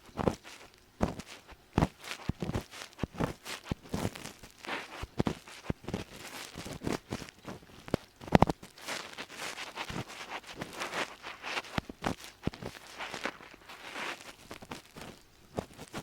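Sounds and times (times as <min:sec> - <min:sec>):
ear pick scraping in ear: 0:01.0 - 0:16.0.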